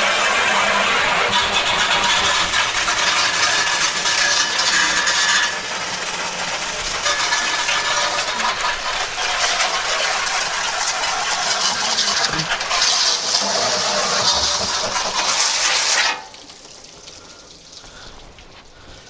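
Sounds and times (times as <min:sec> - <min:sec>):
hose spraying water on metal grill: 0:00.0 - 0:19.0.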